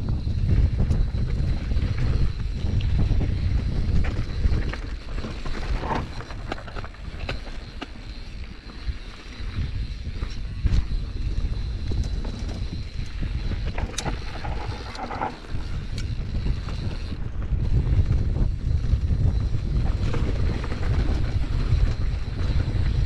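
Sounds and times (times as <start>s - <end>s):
mountain bike rattling on trail: 0.0s - 23.0s
wind rumbling on microphone: 0.0s - 23.0s.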